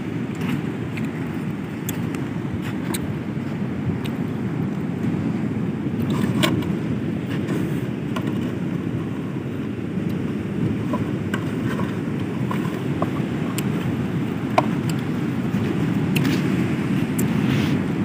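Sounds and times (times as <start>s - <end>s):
sea surf: 0.0s - 18.0s
wind on microphone: 0.0s - 18.0s.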